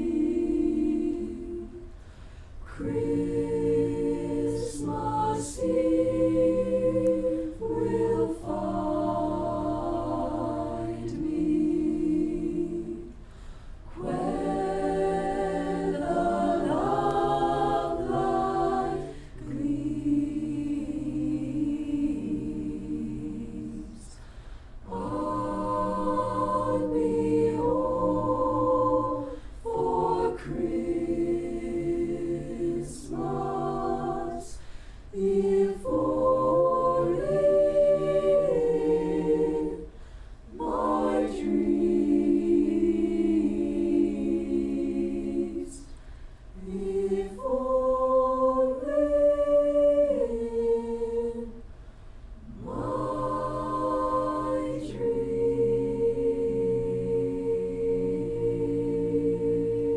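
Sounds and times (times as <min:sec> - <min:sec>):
school choir singing: 0:00.0 - 0:02.0, 0:02.6 - 0:13.2, 0:13.9 - 0:24.2, 0:24.8 - 0:46.0, 0:46.6 - 0:51.7, 0:52.4 - 0:59.9.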